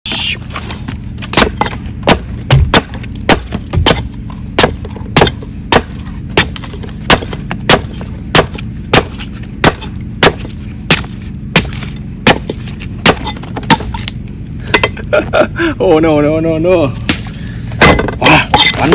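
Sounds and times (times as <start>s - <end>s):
cleaver chopping coconut husk: 0.1s - 14.8s, 17.0s - 18.9s.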